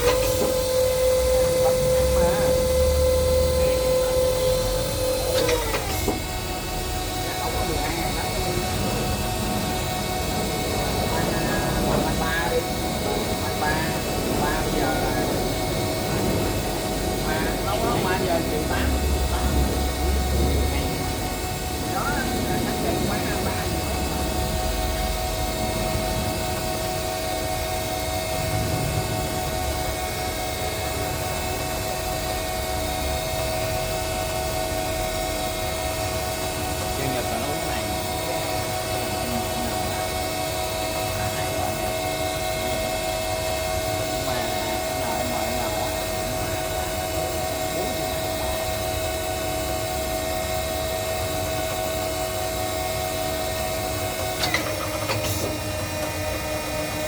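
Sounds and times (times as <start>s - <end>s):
lathe running: 0.0s - 57.0s.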